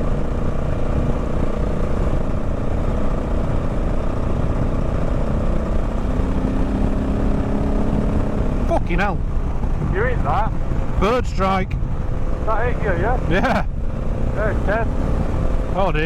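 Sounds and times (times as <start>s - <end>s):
constant rushing noise: 0.0s - 16.0s
motorcycle engine running: 0.0s - 16.0s.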